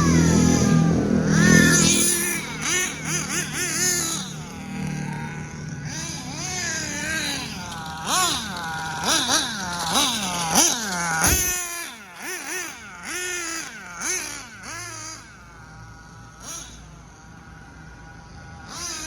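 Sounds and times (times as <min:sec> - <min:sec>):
model car engine revving: 0:00.0 - 0:19.0.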